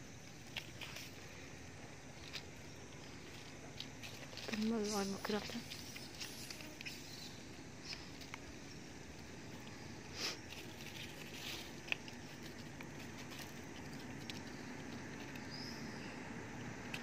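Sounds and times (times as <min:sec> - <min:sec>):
faint outdoor background: 0:00.0 - 0:17.0
light patter and rustles: 0:00.1 - 0:16.0.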